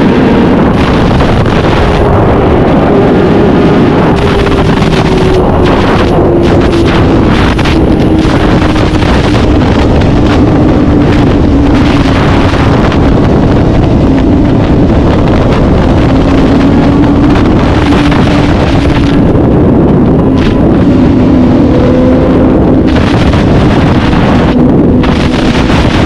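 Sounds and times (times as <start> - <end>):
vehicle engine running at high revs: 0.0 - 26.0
wind rumble on microphone: 0.0 - 26.0.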